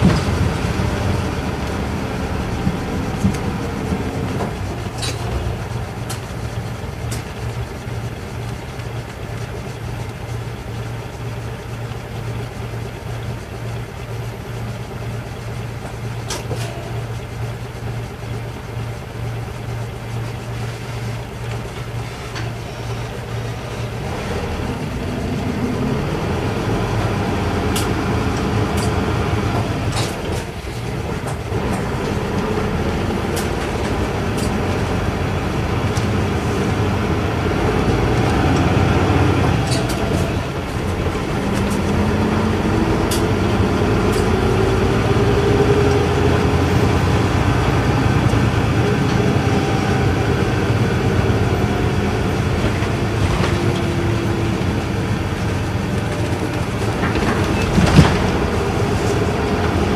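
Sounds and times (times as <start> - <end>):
bus engine hum: 0.0 - 59.9
road noise: 0.0 - 59.9.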